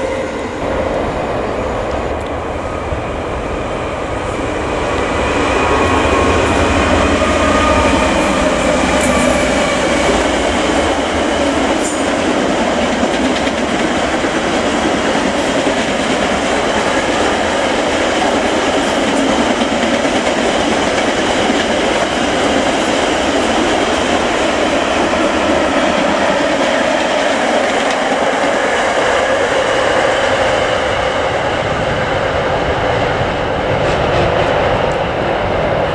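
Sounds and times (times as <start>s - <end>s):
train wheels rumbling on rails: 0.0s - 35.9s.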